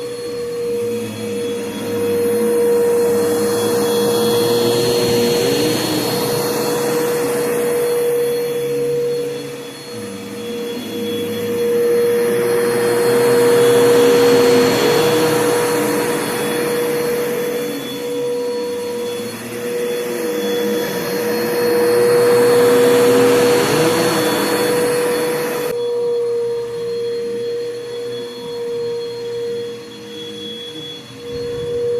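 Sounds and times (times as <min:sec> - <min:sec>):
upright vacuum cleaner running: 0:00.0 - 0:31.9.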